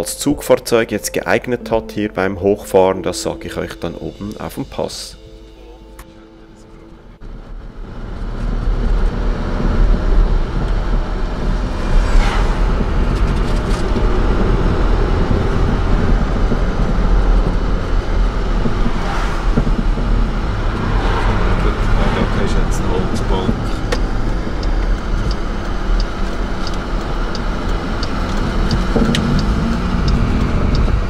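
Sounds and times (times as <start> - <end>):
car engine and road noise: 0.0 - 31.0
vehicles swishing past: 6.1 - 31.0.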